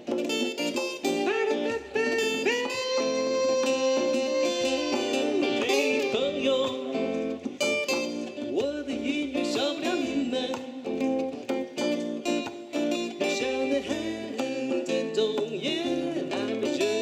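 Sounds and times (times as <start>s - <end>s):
acoustic guitar: 0.0s - 17.0s
man singing into a microphone: 1.0s - 11.0s, 13.1s - 17.0s.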